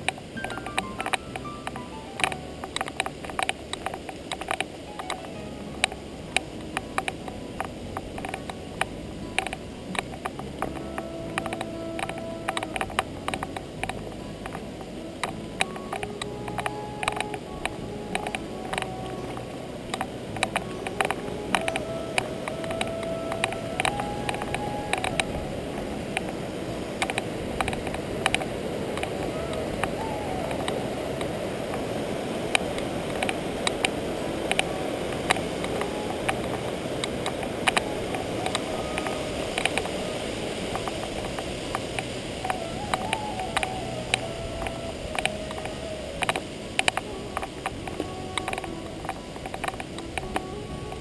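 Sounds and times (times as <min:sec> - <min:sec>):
gravel and rock clicks: 0:00.0 - 0:51.0
mountain stream rushing: 0:00.0 - 0:51.0
thin steady squeal: 0:00.0 - 0:51.0.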